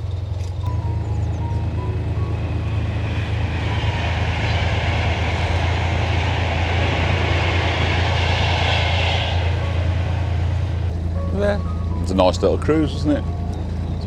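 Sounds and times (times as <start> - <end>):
diesel engine throbbing: 0.0 - 14.0.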